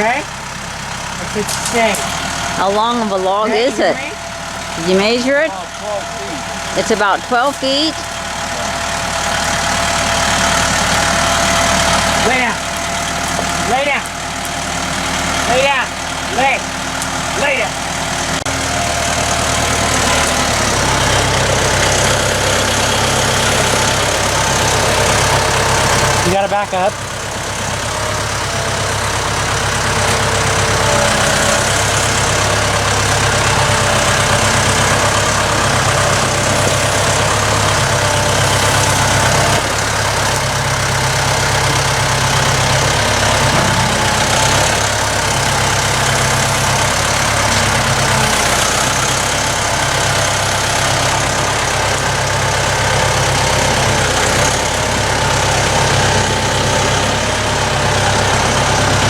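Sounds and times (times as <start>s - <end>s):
machine engine running at low speed: 0.0s - 59.0s.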